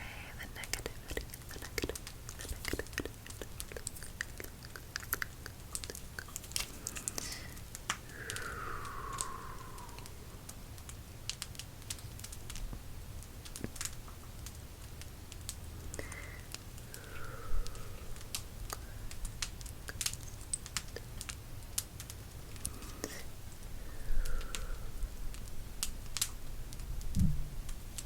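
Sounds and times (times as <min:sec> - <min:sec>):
fire crackling and popping: 0:00.4 - 0:28.0.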